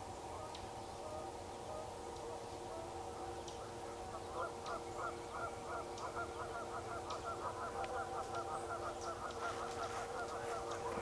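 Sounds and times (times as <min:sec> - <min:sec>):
faint drone: 0:00.0 - 0:11.0.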